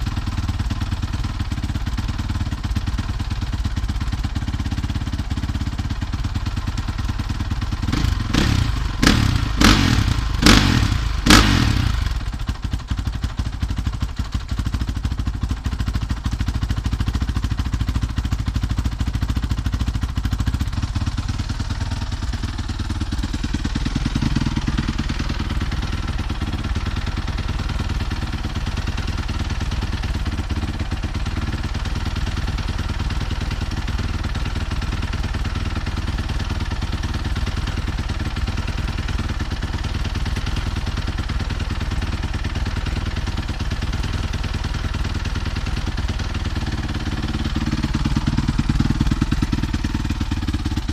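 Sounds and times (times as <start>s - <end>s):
motorcycle engine revving and idling: 0.0s - 50.9s.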